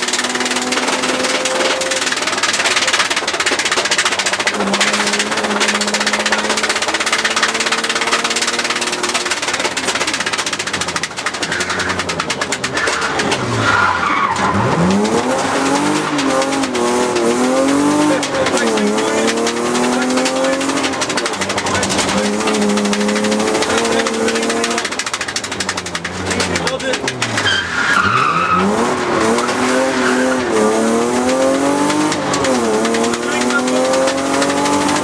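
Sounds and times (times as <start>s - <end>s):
car engine revving: 0.0s - 35.0s
road and tyre noise: 0.0s - 35.0s.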